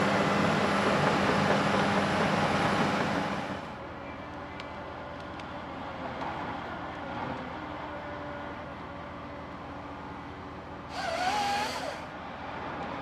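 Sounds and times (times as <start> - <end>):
engine and hydraulics running: 0.0 - 13.0.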